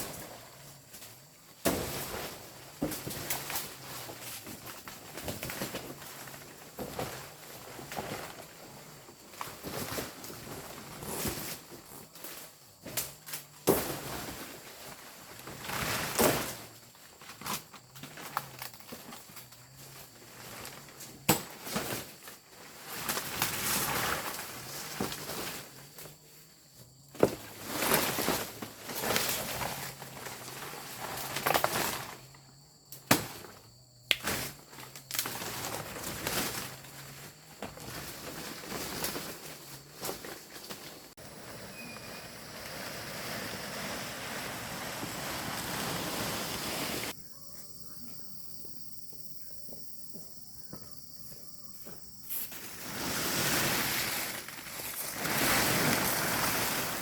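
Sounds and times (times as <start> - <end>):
rustling: 0.0 - 32.5, 33.3 - 57.0.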